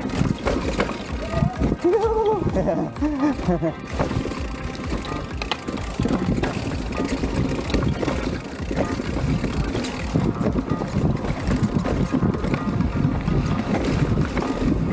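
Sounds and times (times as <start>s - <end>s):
wind buffeting microphone: 0.0s - 3.0s, 4.0s - 14.9s
bike clicks and rattles: 0.0s - 14.9s.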